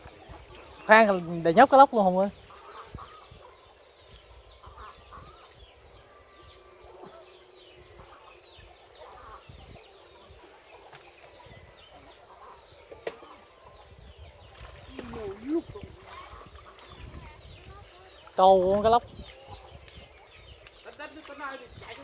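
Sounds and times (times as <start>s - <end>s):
birds chirping and clucking: 0.0s - 22.0s.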